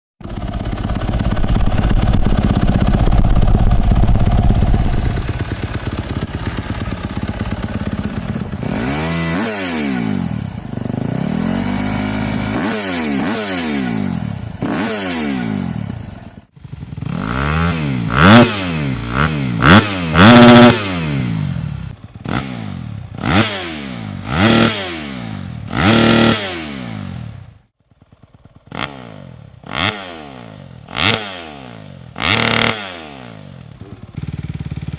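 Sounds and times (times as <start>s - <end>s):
motocross bike engine revving: 0.2s - 27.7s, 28.4s - 34.9s.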